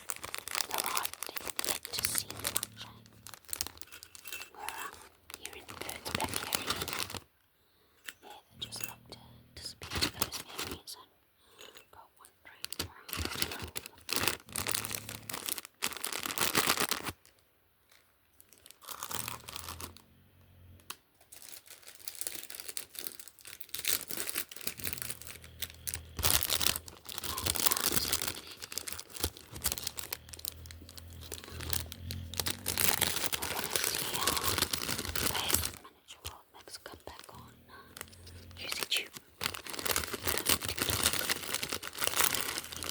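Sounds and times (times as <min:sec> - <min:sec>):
packaging being torn and crinkled: 0:00.0 - 0:07.2, 0:12.5 - 0:20.0, 0:20.8 - 0:36.4, 0:37.0 - 0:42.9.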